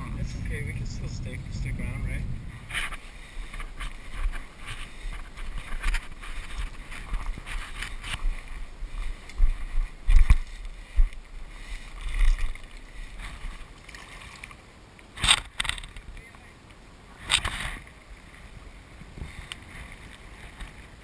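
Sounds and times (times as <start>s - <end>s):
wind buffeting microphone: 0.0s - 13.6s, 17.4s - 21.0s.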